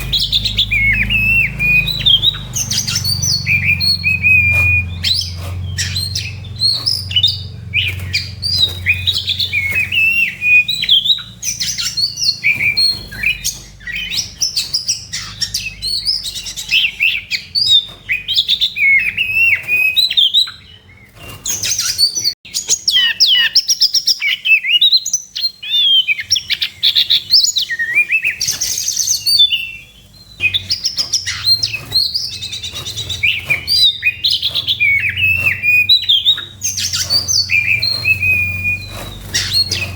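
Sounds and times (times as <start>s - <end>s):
songbird whistling and chattering: 0.0s - 39.9s.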